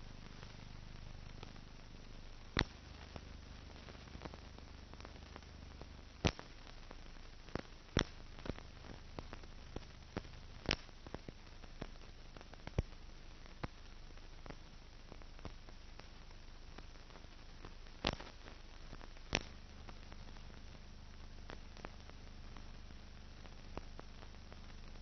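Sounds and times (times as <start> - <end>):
faint film surface hiss: 0.0 - 25.0
sharp clicks and pops: 0.1 - 25.0.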